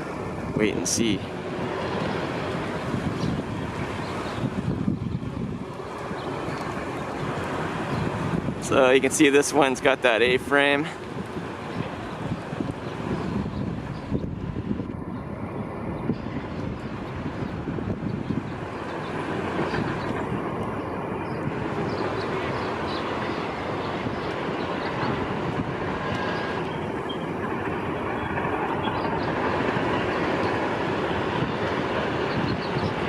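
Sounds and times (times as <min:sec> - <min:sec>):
construction machinery rumbling: 0:00.0 - 0:33.0.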